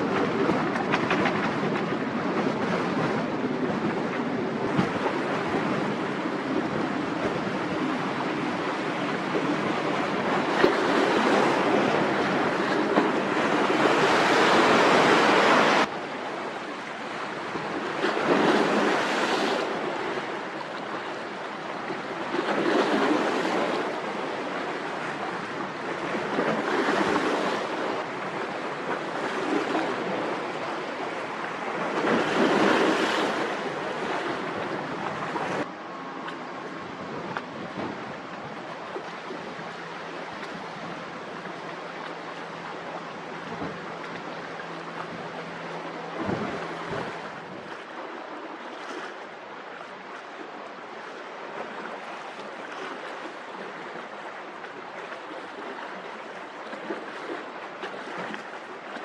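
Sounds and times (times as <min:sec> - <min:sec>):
gusting wind on microphone: 0:00.0 - 0:58.6
waves washing: 0:00.0 - 0:59.0.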